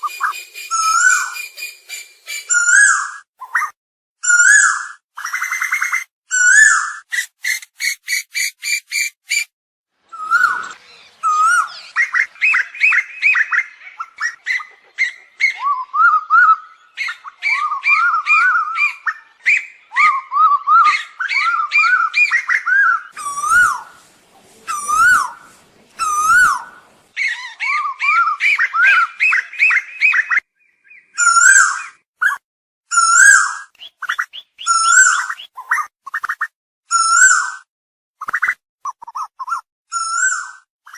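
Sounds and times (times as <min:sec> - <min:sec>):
koel whistled calls: 0:00.0 - 0:09.5, 0:10.1 - 0:40.9.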